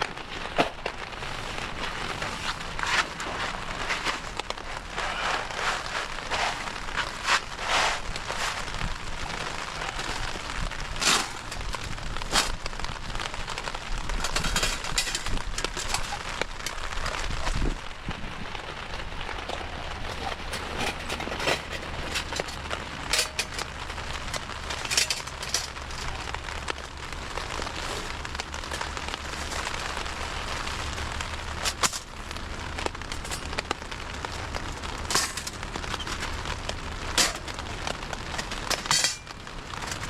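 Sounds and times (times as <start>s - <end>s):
steady rain: 0.0s - 40.0s
wood fire popping and crackling: 0.0s - 40.0s.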